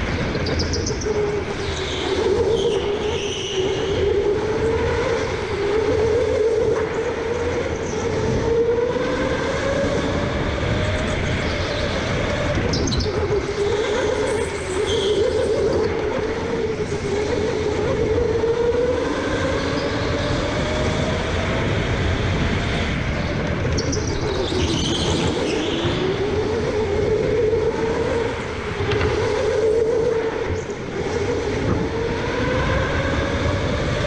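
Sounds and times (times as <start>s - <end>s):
kart rumble: 0.0s - 34.0s.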